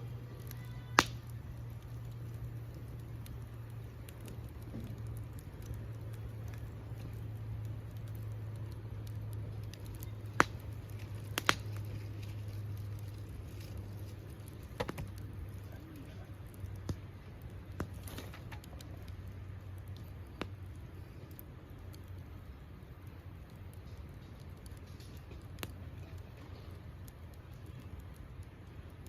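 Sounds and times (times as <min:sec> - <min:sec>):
burning wood popping: 0:00.0 - 0:29.0
campfire crackling: 0:00.0 - 0:29.0
low hum: 0:00.0 - 0:29.0.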